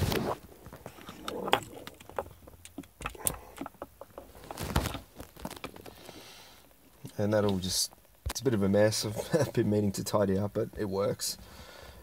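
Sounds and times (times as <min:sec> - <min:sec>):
cables rustling: 0:00.0 - 0:09.6.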